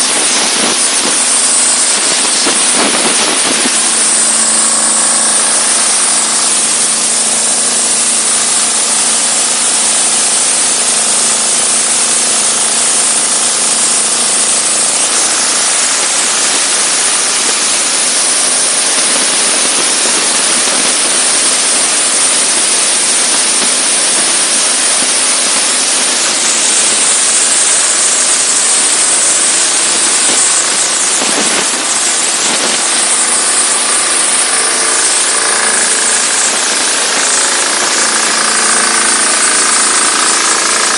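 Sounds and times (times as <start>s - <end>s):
pressure washer engine hum: 0.0s - 40.9s
spray jet hissing: 0.0s - 40.9s.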